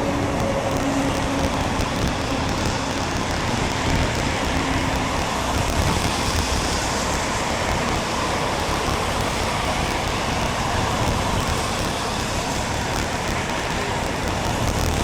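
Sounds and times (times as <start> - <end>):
traffic: 0.0 - 15.0
tyres on wet road: 0.0 - 15.0
wind rumble on microphone: 0.0 - 15.0.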